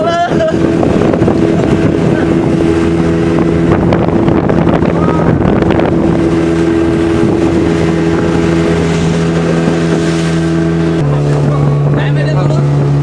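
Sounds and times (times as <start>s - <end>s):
motorboat engine drone: 0.0s - 13.0s
wind and water rushing: 0.0s - 13.0s.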